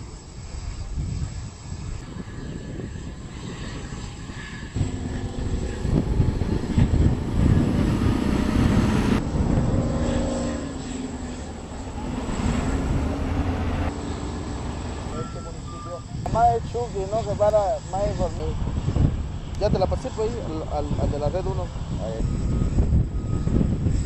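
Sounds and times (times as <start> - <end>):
airliner engines humming: 0.0 - 24.0.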